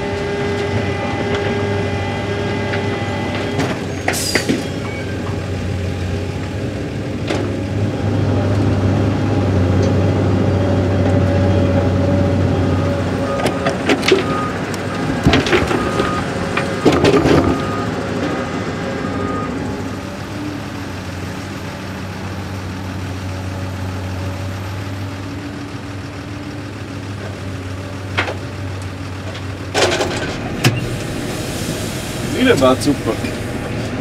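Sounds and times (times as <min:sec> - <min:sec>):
excavator diesel engine: 0:00.0 - 0:34.0.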